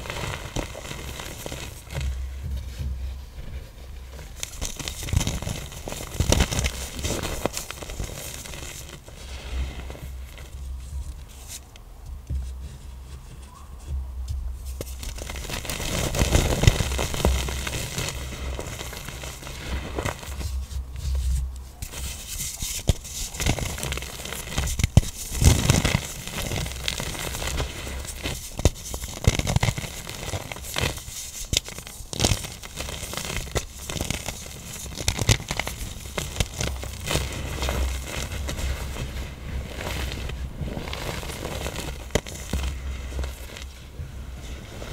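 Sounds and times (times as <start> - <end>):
powder blocks crunching: 0.0 - 11.6, 14.6 - 44.9.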